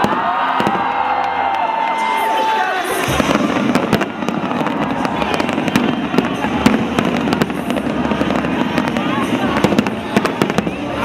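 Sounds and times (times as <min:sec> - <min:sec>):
firework crackles: 0:00.0 - 0:11.0
fireworks exploding: 0:00.0 - 0:11.0.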